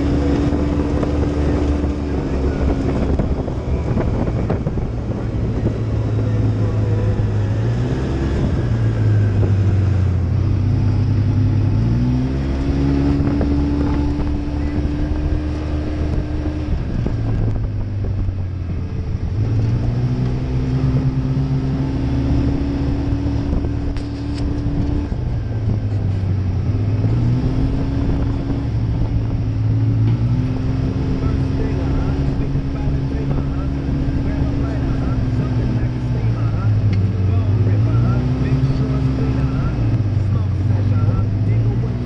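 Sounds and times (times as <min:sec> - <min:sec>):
utility vehicle engine accelerating: 0:00.0 - 0:42.0.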